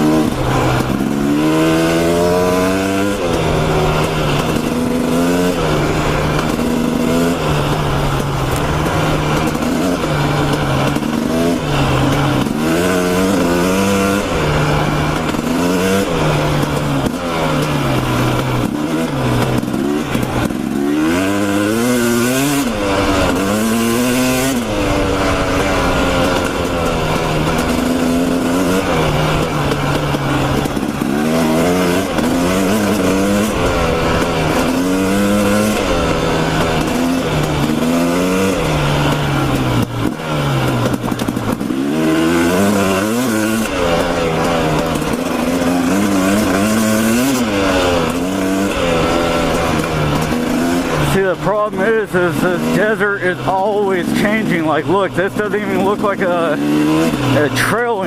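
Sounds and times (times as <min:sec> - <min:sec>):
constant rushing noise: 0:00.0 - 0:58.0
dirt bike engine revving: 0:00.0 - 0:58.0.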